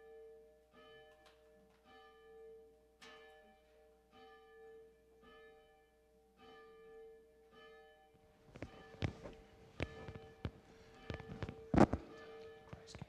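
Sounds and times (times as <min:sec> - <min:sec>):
faint church bell tolling: 0:00.0 - 0:13.0.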